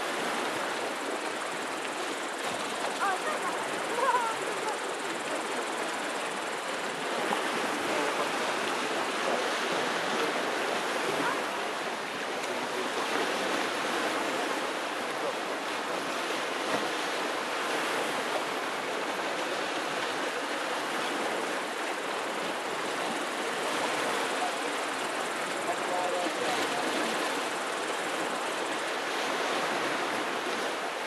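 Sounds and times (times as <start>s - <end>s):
sea waves hissing: 0.0s - 31.0s.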